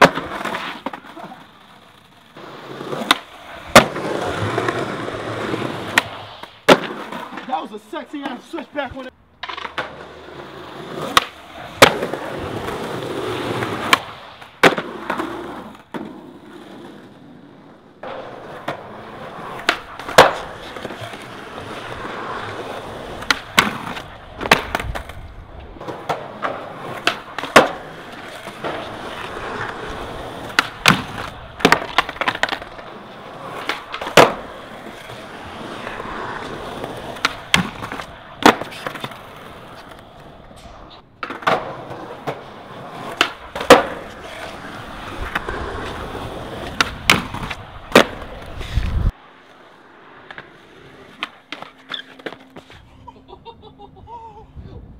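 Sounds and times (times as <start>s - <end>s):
skateboard clacks: 0.0s - 49.2s
skateboard wheels rolling on concrete: 0.0s - 54.9s.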